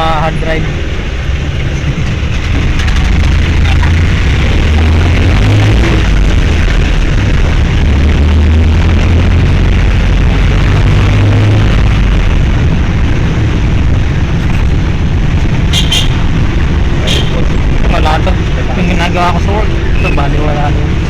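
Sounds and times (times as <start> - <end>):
vehicle engine and traffic rumble: 0.0 - 21.0.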